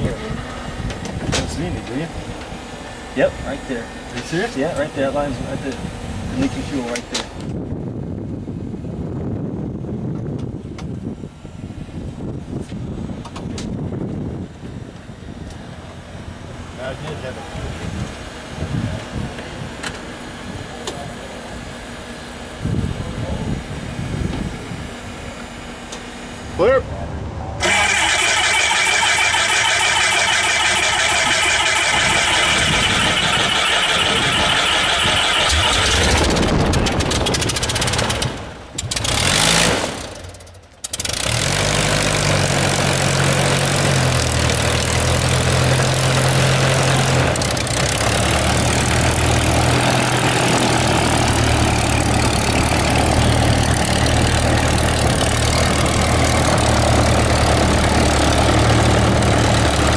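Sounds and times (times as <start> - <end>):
aircraft engine running: 0.0 - 59.9.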